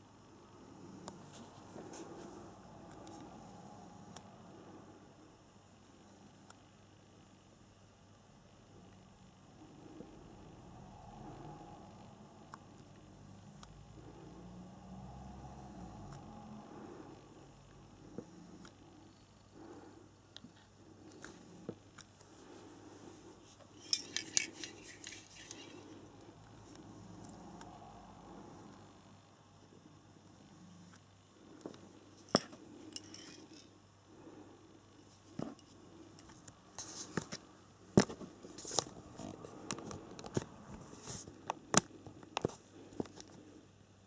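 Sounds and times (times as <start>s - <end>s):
faint room hiss: 0.0s - 44.0s.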